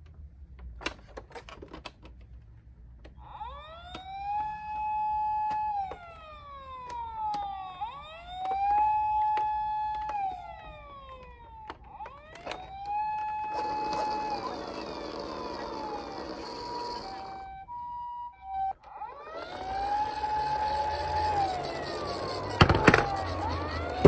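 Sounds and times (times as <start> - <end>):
toy electronic siren wailing: 3.2 - 24.0.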